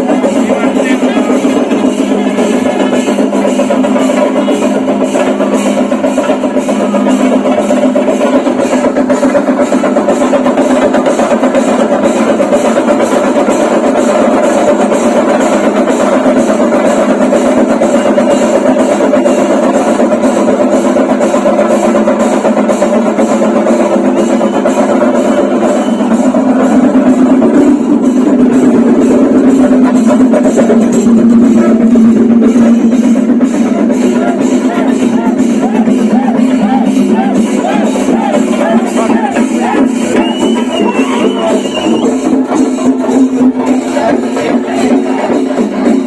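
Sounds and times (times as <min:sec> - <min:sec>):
rapid drumming ensemble: 0:00.0 - 0:46.0.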